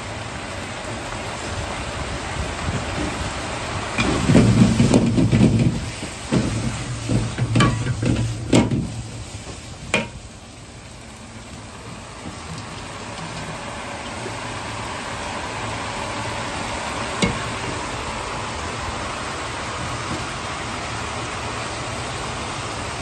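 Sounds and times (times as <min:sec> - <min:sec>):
vegetables sizzling in wok: 0:00.0 - 0:23.0.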